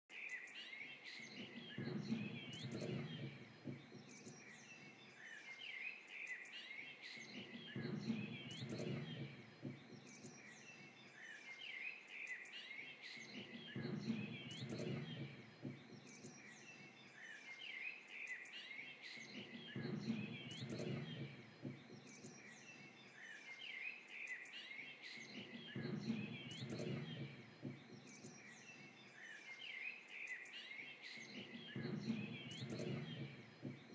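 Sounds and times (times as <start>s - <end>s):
birds chirping and twittering: 0.1s - 33.9s.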